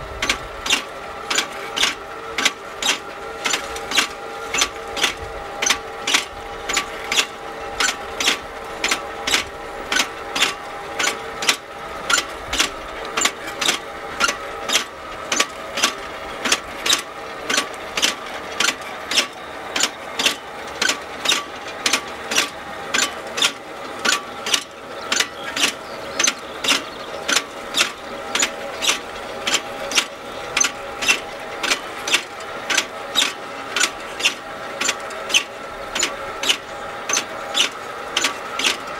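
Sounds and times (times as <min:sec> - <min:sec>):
machinery whine: 0:00.0 - 0:38.9
robot implements clicking: 0:00.1 - 0:38.9.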